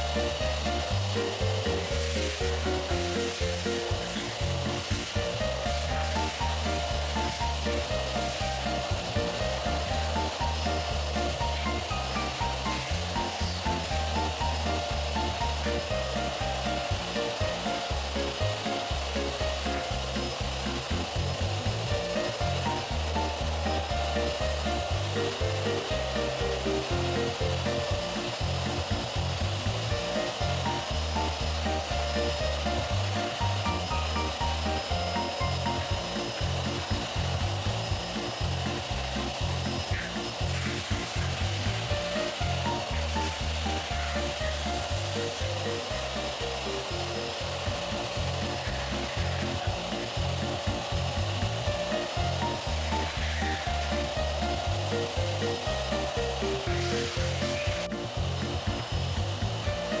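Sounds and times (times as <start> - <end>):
background music with bass line: 0.0 - 60.0
higher melody: 0.0 - 60.0
vacuum cleaner running: 0.0 - 60.0.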